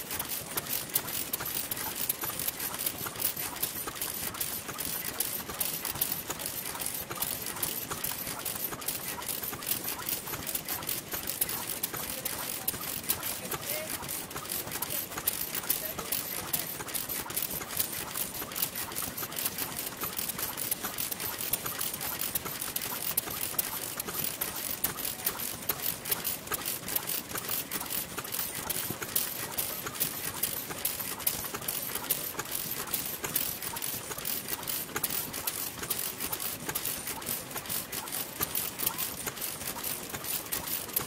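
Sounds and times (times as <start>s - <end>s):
stationary engines clattering: 0.0s - 41.0s.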